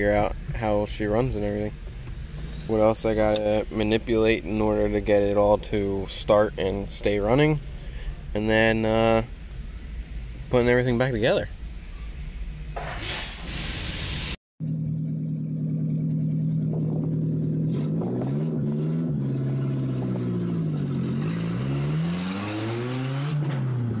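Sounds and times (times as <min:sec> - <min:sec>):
car engine idling and revving: 0:00.0 - 0:12.8, 0:14.6 - 0:24.0.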